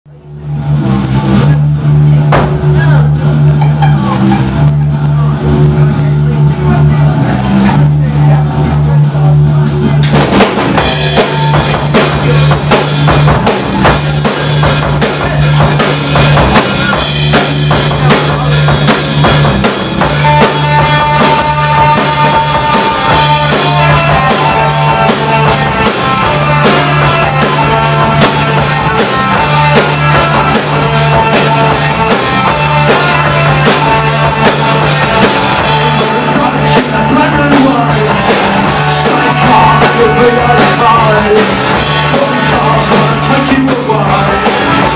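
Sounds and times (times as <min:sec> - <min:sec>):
live rock band playing: 0:00.2 - 0:44.9.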